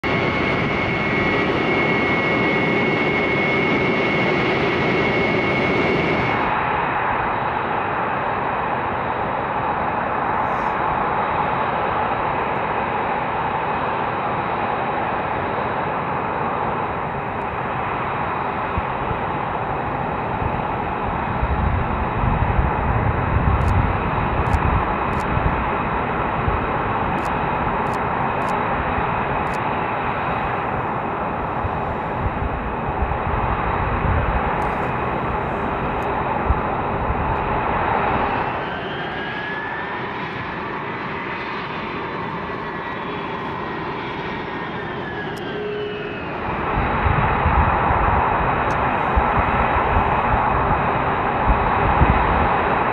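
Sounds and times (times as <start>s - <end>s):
deep jet rumble: 0.0s - 13.8s, 14.9s - 52.9s
jet engines whining: 0.0s - 52.9s.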